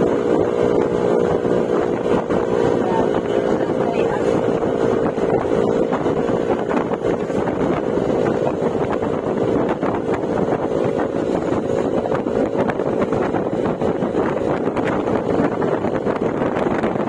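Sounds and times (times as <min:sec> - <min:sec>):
scooter engine running: 0:00.0 - 0:17.0
wind buffeting microphone: 0:00.0 - 0:17.0.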